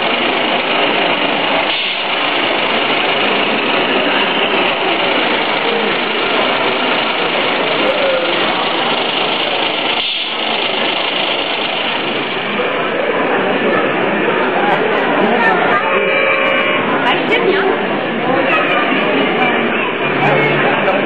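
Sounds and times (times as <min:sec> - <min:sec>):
busy hall hubbub: 0:00.0 - 0:21.0.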